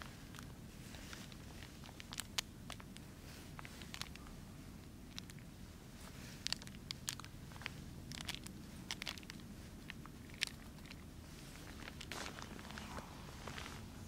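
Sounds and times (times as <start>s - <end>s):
glove rustling: 0.0s - 4.2s, 5.2s - 14.0s
paper packet crinkling: 0.0s - 4.2s, 4.9s - 5.4s, 6.0s - 13.9s.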